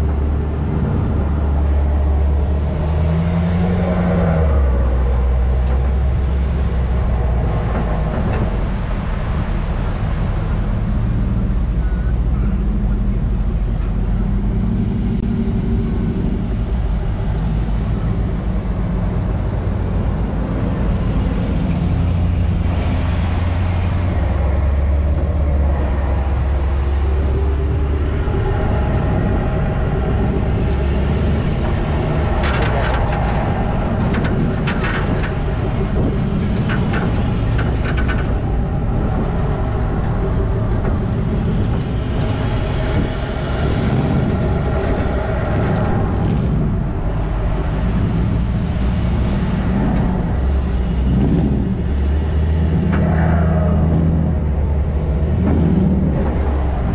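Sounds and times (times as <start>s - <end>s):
truck engine rumbling: 0.0s - 56.9s.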